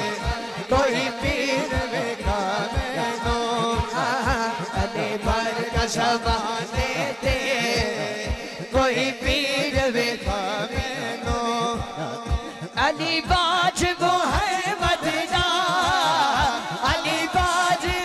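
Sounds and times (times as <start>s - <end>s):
man singing ornamented line: 0.0s - 18.0s.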